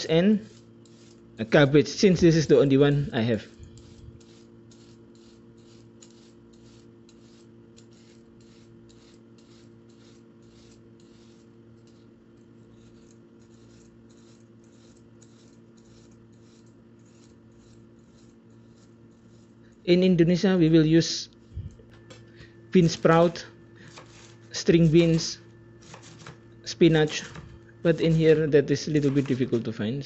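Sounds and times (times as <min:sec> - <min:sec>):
peeler scraping carrot: 0:00.0 - 0:21.8, 0:22.7 - 0:29.7
faint steady hum: 0:00.0 - 0:30.0.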